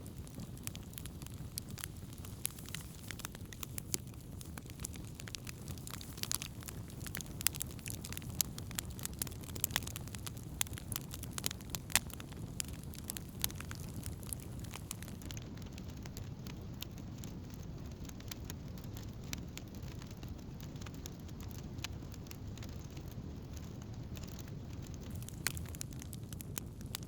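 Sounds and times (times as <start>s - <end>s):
campfire crackling and popping: 0.0s - 27.0s
fire low rumble: 0.0s - 27.0s.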